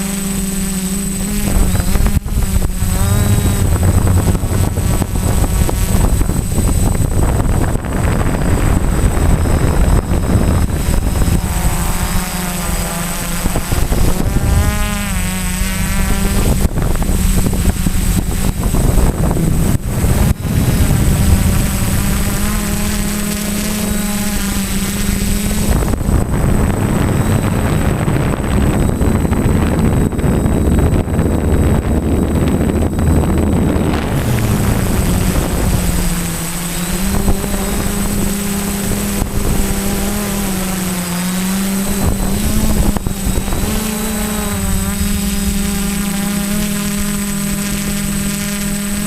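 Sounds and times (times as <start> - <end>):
quadcopter propellers buzzing: 0.0 - 49.0.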